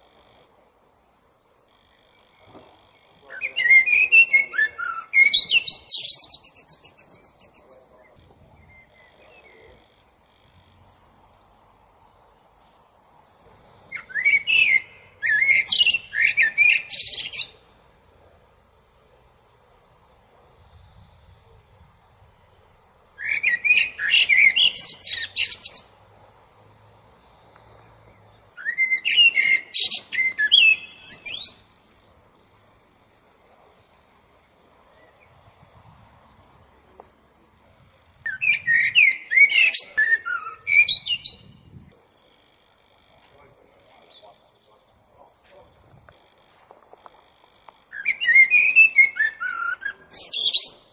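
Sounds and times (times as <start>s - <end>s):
blackbird singing: 1.2s - 11.7s, 13.2s - 26.0s, 27.2s - 35.5s, 36.6s - 46.0s, 46.9s - 50.9s.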